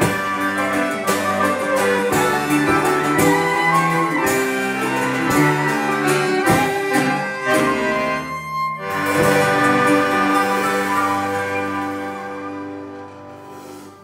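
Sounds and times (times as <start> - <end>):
sharp beat: 0.0 - 12.6
accordion melody: 0.0 - 14.0
folk band backing: 0.0 - 14.0
violin melody: 0.0 - 14.0.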